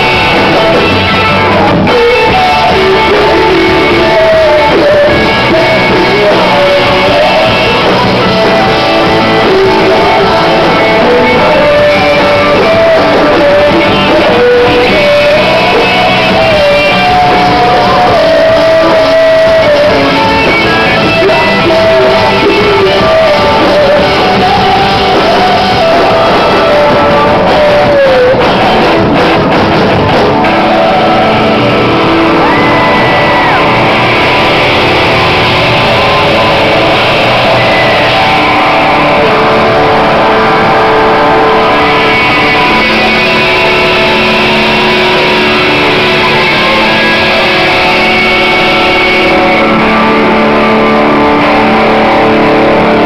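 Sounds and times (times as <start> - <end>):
man singing close to shouting: 0.0 - 29.3, 30.3 - 53.0
live rock band playing: 0.0 - 53.0.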